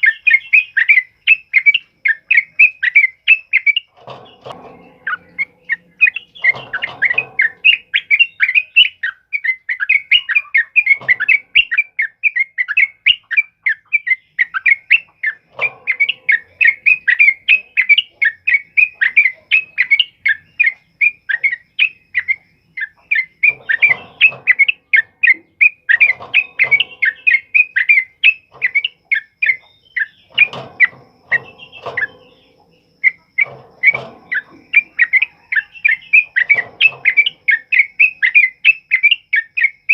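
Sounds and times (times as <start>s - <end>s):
bird chattering song: 0.0s - 39.9s
harsh bird calls: 0.0s - 39.9s.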